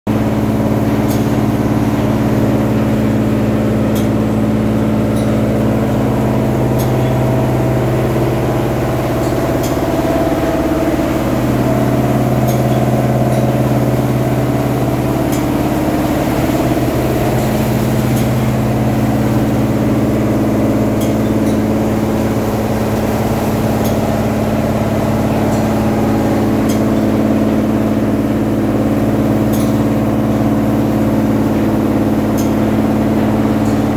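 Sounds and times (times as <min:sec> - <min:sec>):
carpet washing machine motor hum: 0:00.1 - 0:33.9.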